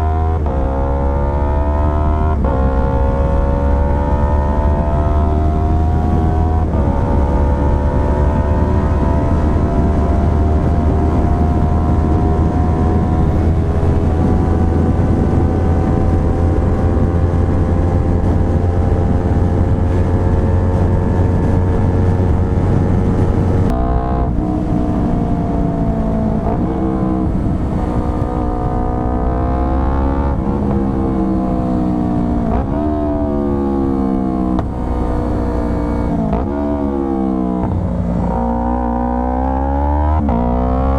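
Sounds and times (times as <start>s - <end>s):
motorcycle engine revving: 0.0s - 40.9s
wind rumble on microphone: 0.0s - 40.9s.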